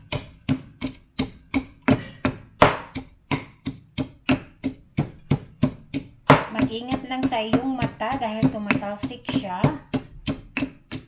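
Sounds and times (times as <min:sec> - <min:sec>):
pestle pounding in stone mortar: 0:00.0 - 0:11.0.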